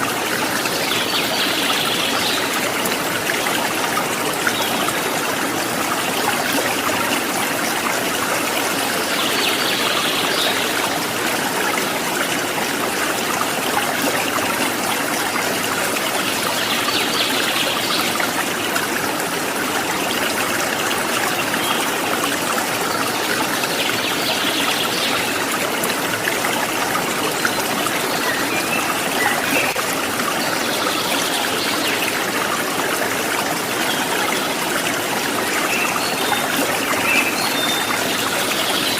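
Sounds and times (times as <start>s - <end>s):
water trickling and flowing: 0.0s - 38.9s.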